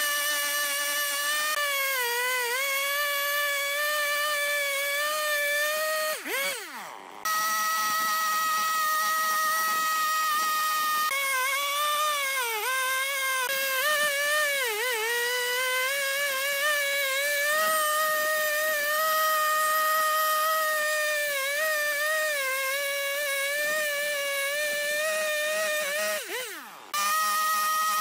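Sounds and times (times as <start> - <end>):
chainsaw sawing into log: 0.0 - 28.0.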